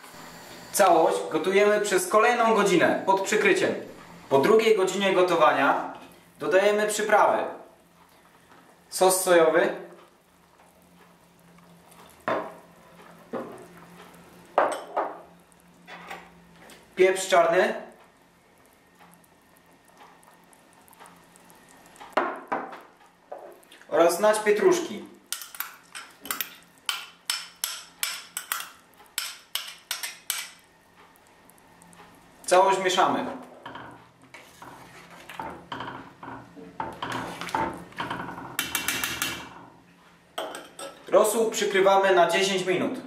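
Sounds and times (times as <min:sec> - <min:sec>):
faint steady hiss: 0:00.0 - 0:34.5.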